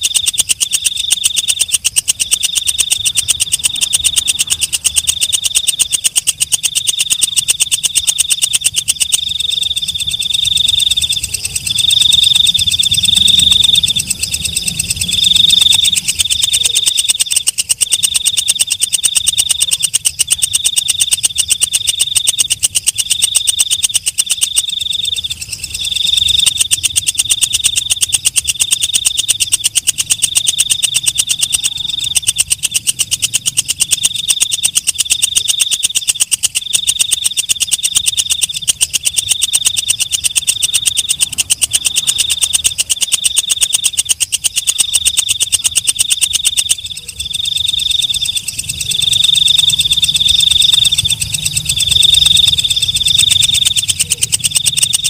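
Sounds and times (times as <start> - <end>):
katydid stridulating: 0.0 - 55.0.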